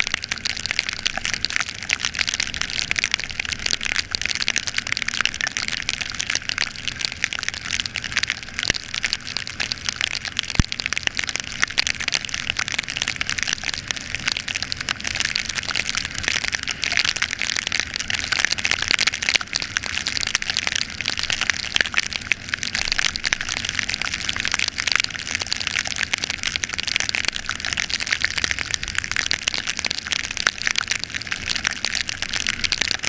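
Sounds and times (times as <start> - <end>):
heavy rain pelting down: 0.0 - 33.0
low steady hum: 0.0 - 33.0.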